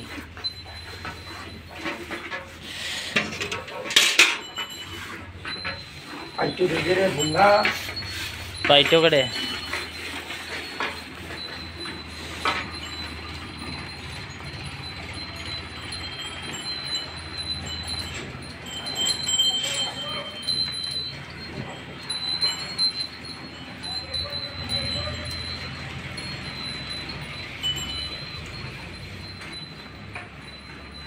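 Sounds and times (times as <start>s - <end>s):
cattle bells tinkling: 0.0s - 31.0s.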